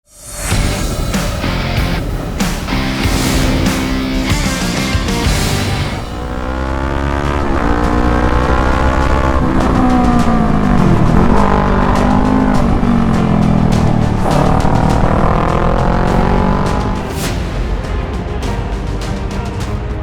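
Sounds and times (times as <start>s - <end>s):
motorcycle engine accelerating: 0.6s - 17.1s.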